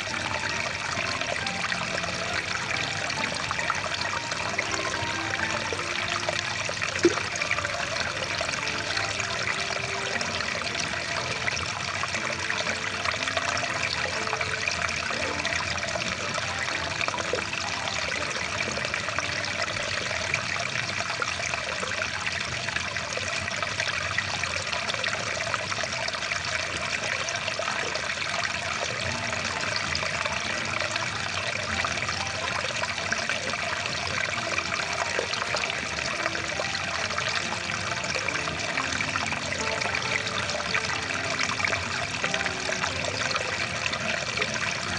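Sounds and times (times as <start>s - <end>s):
rushing water stream: 0.0s - 44.9s.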